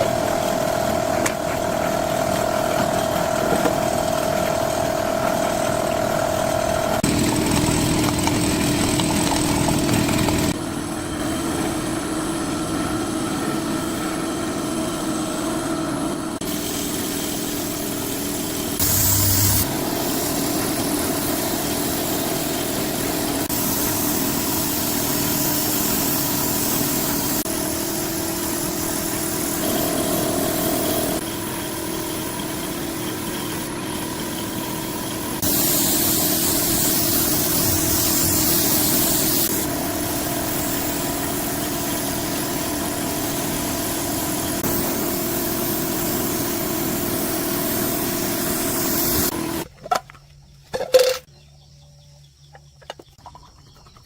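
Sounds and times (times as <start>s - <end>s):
machine humming: 0.0s - 16.6s, 17.8s - 49.6s.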